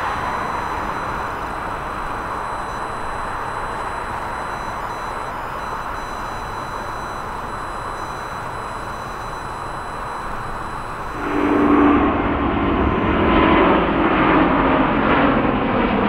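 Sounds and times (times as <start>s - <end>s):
distant jet engine noise: 0.0s - 16.0s
jet departure with whine: 0.0s - 16.0s.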